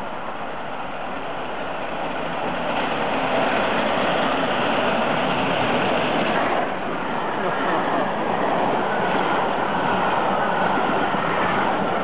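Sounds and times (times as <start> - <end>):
steam locomotive rushing past: 0.0 - 12.0.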